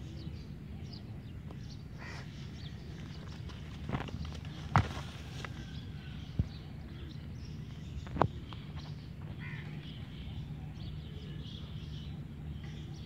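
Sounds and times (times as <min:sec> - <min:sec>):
birds calling faintly: 0:00.0 - 0:13.0
low background hum: 0:00.0 - 0:13.0.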